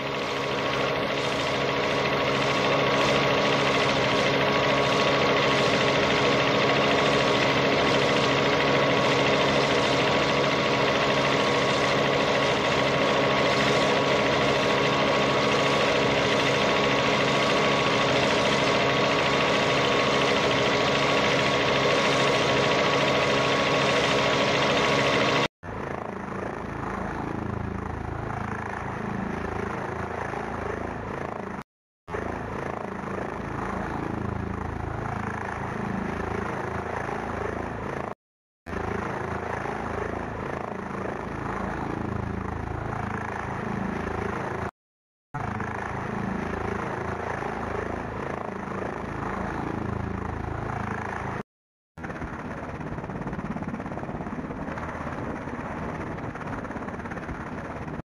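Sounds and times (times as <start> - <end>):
helicopter engine and rotor: 0.0 - 44.8, 45.4 - 58.0.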